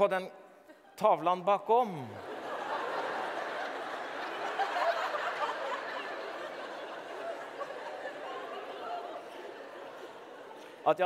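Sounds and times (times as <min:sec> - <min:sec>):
audience laughing: 0:02.1 - 0:11.0.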